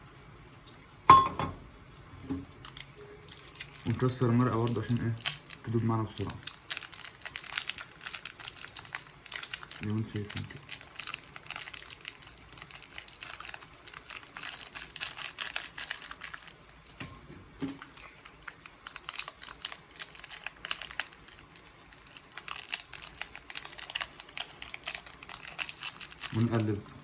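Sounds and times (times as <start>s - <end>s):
foil crinkling and crackling: 2.5s - 27.0s.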